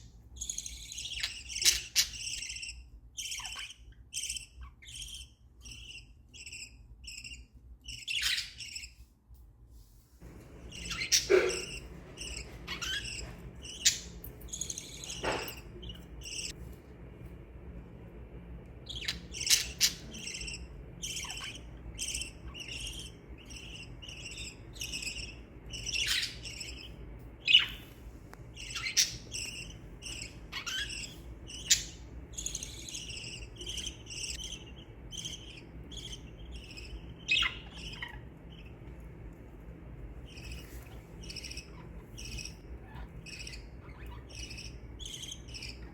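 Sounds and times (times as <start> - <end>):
parrots chirping and chattering: 0.0 - 9.1, 10.2 - 45.9.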